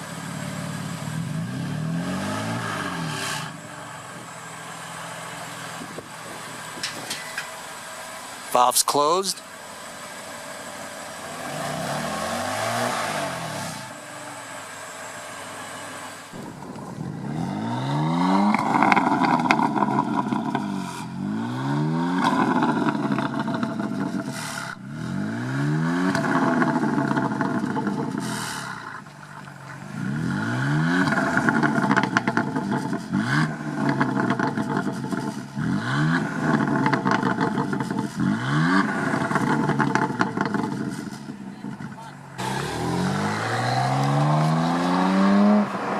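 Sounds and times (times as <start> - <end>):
car engine revving: 0.0 - 7.5, 9.7 - 45.9.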